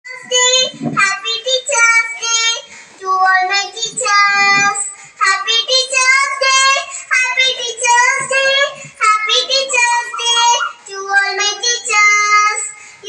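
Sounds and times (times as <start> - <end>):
child singing: 0.1 - 13.0.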